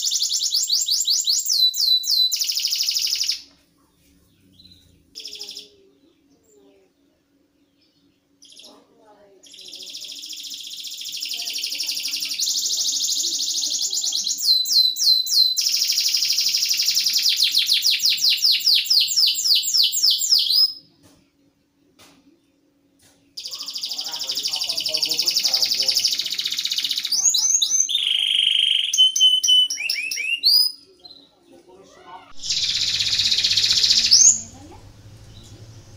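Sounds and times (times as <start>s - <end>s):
canary singing trills: 0.0s - 21.6s, 22.4s - 35.9s.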